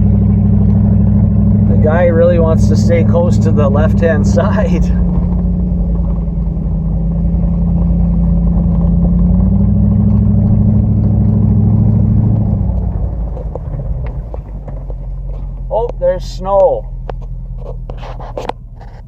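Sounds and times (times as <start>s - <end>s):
truck engine under load: 0.0s - 19.0s.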